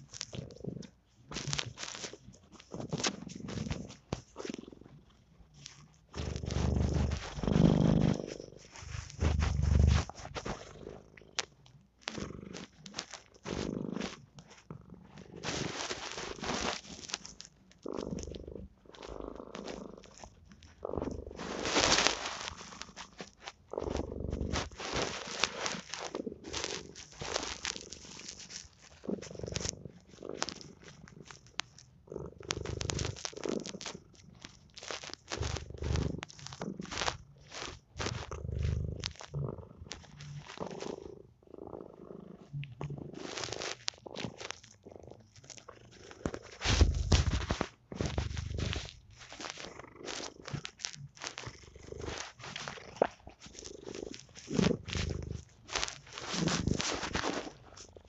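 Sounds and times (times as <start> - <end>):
cat purring: 0.0 - 58.0
small clicks and crackles: 0.0 - 58.0.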